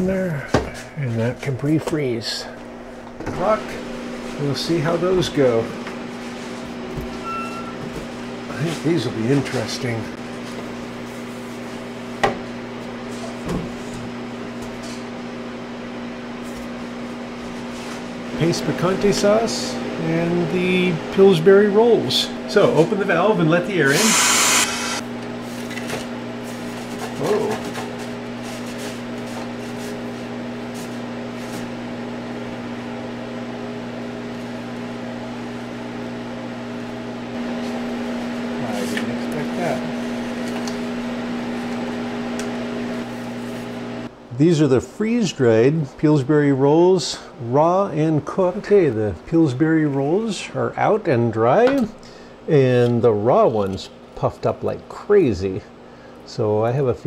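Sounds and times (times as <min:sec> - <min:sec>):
freeze dryer humming: 0:00.0 - 0:57.0.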